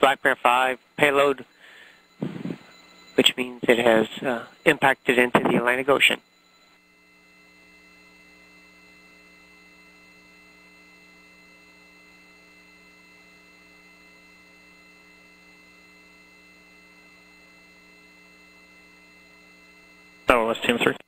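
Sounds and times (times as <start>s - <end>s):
faint electrical mains hum: 0.0s - 21.0s
thin high whines: 0.0s - 21.0s.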